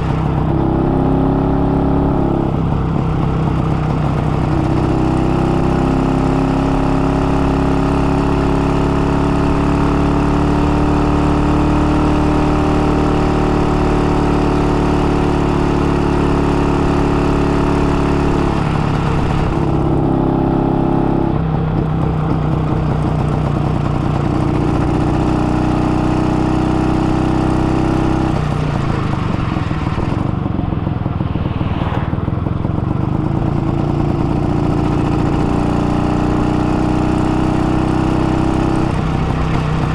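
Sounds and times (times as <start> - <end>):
two-stroke motorcycle engine running: 0.0 - 31.5, 32.2 - 39.9.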